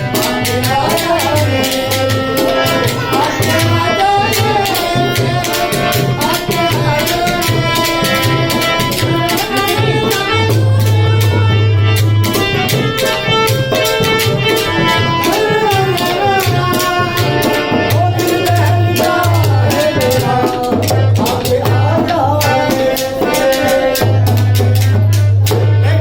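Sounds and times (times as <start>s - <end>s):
fast hand drum strokes: 0.0s - 26.0s
sustained melody notes: 0.0s - 26.0s.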